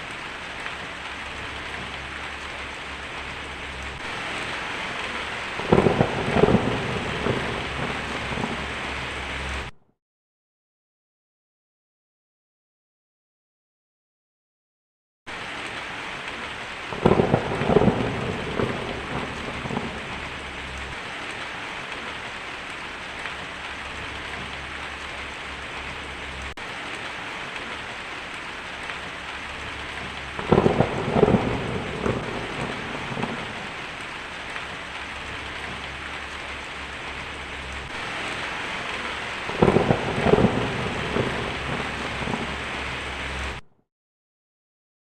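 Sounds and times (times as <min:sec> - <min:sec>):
thunder rumbling: 0:00.0 - 0:09.7, 0:16.8 - 0:43.6
heavy rain on a tin roof: 0:00.0 - 0:09.8, 0:15.3 - 0:43.6.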